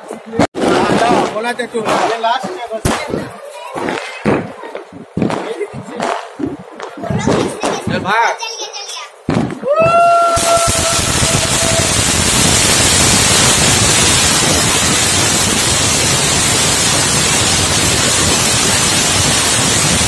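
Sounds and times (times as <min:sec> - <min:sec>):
firework fountain hissing: 0:00.6 - 0:20.0.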